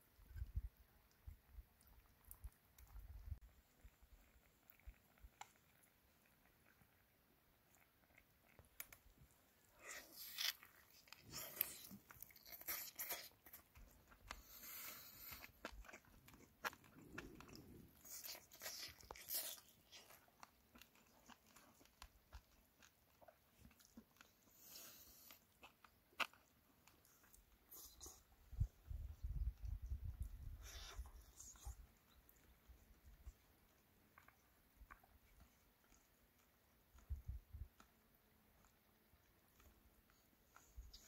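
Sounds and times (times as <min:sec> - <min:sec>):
person chewing chicken: 0:01.8 - 0:41.0.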